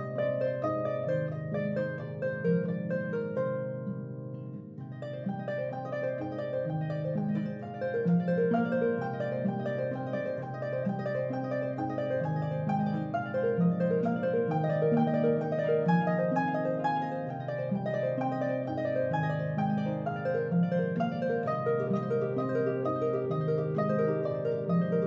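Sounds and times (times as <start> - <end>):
harp music: 0.0 - 25.0.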